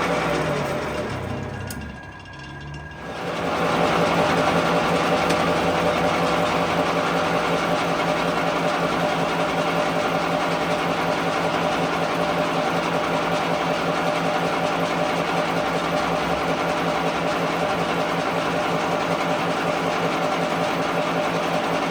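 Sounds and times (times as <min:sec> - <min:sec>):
workshop machine humming: 0:00.0 - 0:21.9.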